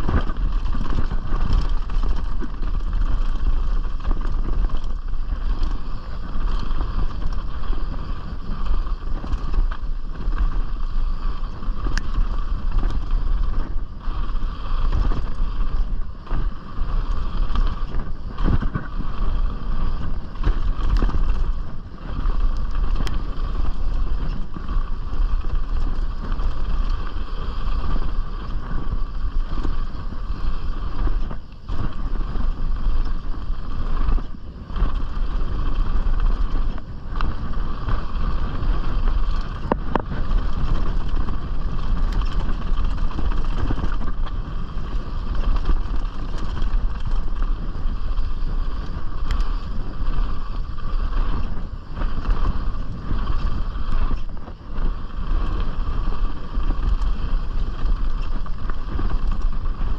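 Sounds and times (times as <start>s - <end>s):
bike tyres rumbling and rattling: 0.0s - 59.9s
wind on camera: 0.0s - 59.9s.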